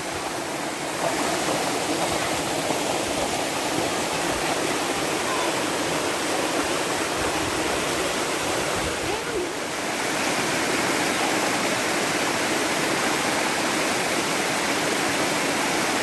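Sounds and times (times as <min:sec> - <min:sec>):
water rushing over waterfall: 0:00.0 - 0:16.0.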